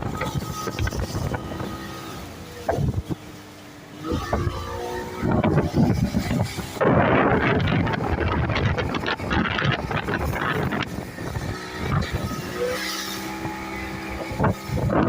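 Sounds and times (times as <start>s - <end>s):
motorboat engine rumble: 0.0s - 15.0s
wind buffeting microphone: 0.0s - 15.0s.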